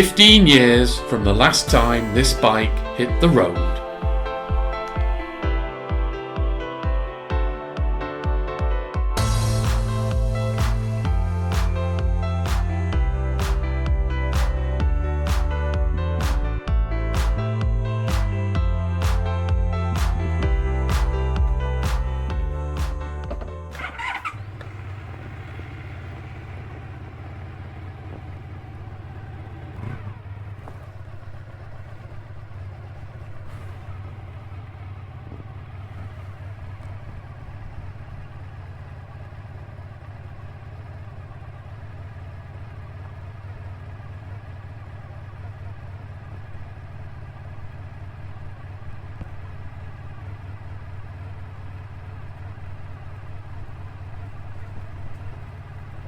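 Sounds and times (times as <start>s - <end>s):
motorcycle engine running: 0.0s - 8.4s, 9.2s - 56.0s.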